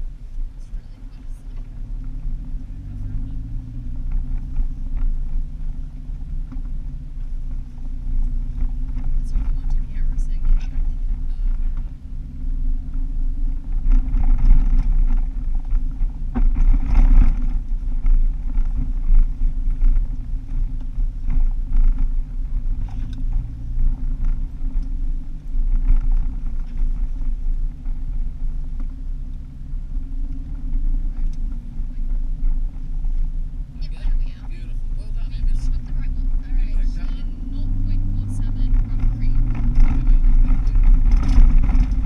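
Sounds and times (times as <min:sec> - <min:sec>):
car engine drone: 0:00.0 - 0:42.0
car rattles: 0:00.0 - 0:42.0
tyres rumbling on dirt road: 0:00.0 - 0:42.0.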